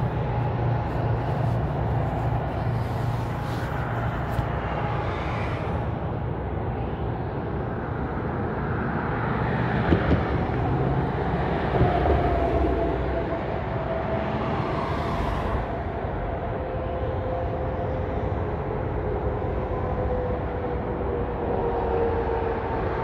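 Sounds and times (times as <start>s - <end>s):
tyre hiss of passing vehicles: 0.0s - 7.2s, 8.2s - 19.5s
highway traffic hum: 0.0s - 23.0s.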